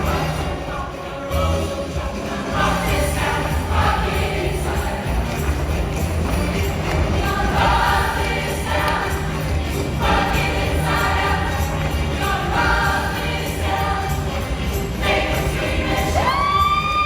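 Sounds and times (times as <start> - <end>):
backing music with steady beat: 0.0 - 17.0
choir singing rock song: 0.0 - 17.0.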